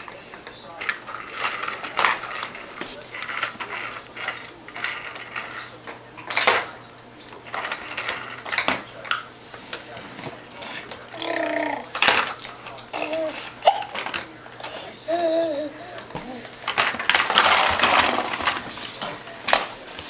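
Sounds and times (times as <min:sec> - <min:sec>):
plastic toy train cars clattering: 0:00.1 - 0:06.8, 0:07.4 - 0:14.8, 0:16.2 - 0:20.0.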